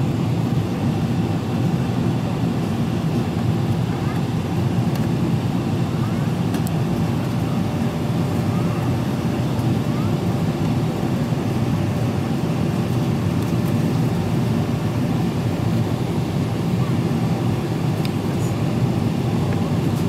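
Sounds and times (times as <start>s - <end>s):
airplane cabin engine rumble: 0.0s - 20.0s.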